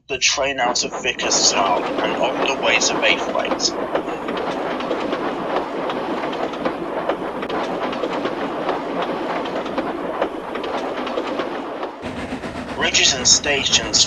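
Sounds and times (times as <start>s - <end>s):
train rolling on rails: 0.0s - 14.0s
rail clicks: 0.1s - 14.0s.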